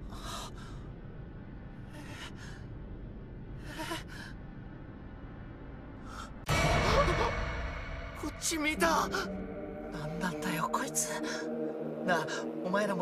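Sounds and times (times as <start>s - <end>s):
low steady drone: 0.0s - 13.0s.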